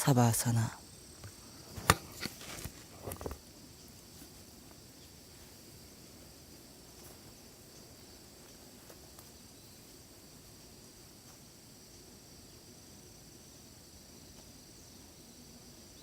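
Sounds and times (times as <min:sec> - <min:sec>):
high insect drone: 0:00.0 - 0:16.0
low background noise: 0:00.0 - 0:16.0.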